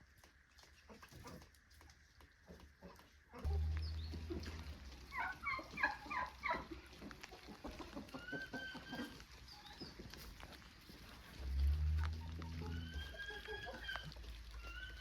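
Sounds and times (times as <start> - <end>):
chickens clucking: 2.5 - 15.0.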